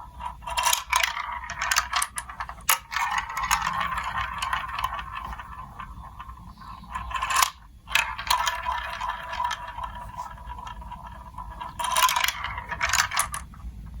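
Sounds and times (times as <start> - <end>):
marbles rolling on plastic track: 0.0 - 13.7.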